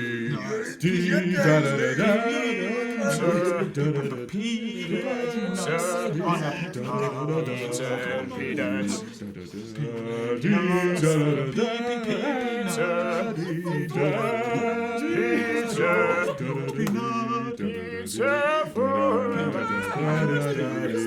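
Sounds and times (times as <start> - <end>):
man singing chant-like tune: 0.0 - 21.0.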